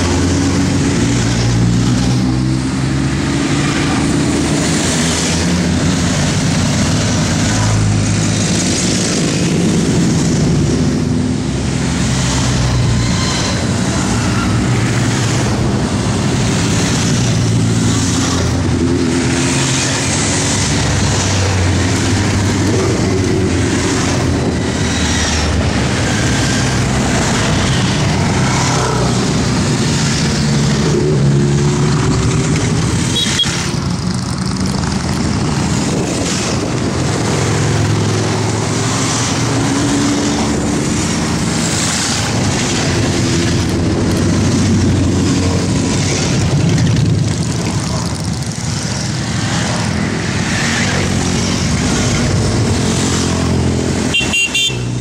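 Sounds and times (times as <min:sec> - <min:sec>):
motorcycles riding past: 0:00.0 - 0:55.0.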